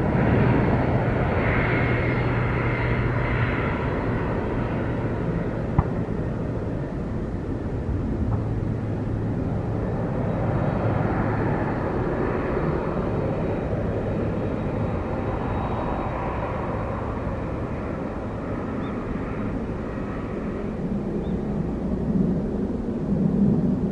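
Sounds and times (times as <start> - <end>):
jet airliner engines running: 0.0 - 23.9.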